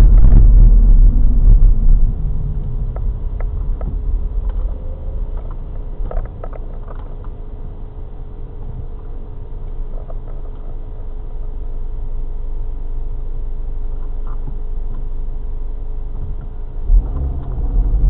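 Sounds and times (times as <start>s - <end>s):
car engine idling: 0.0s - 18.0s
car road and engine rumble: 0.0s - 18.0s.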